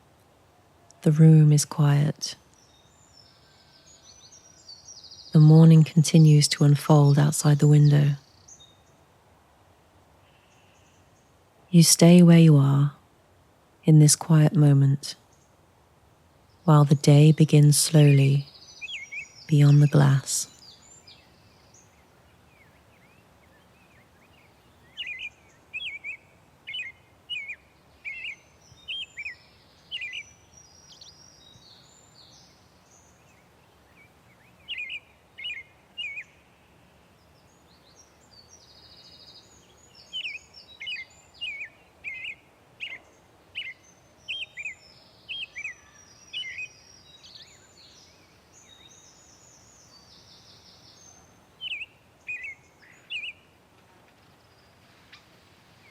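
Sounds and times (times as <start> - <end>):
soft background hiss: 0.0 - 55.9.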